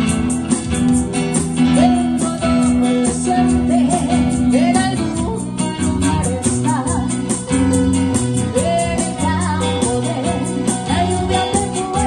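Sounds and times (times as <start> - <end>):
guitar and bass accompaniment: 0.0 - 12.0
woman singing: 1.7 - 12.0.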